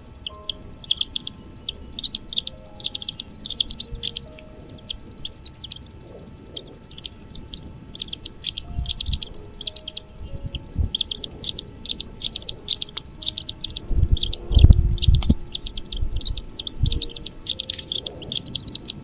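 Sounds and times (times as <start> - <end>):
low thumps: 0.0 - 18.6
birds chirping: 0.0 - 19.0
rising whistles: 0.0 - 19.0.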